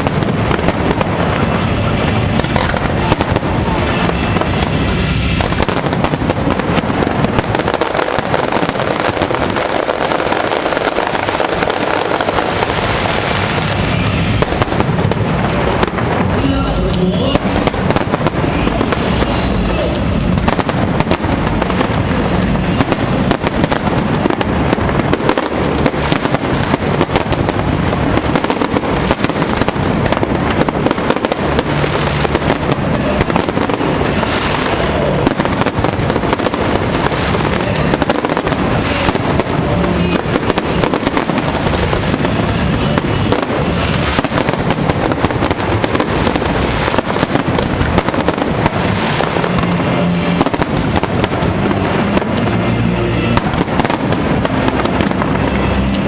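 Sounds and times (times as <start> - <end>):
background music: 0.0 - 56.0
fireworks bursting and crackling: 0.0 - 56.0.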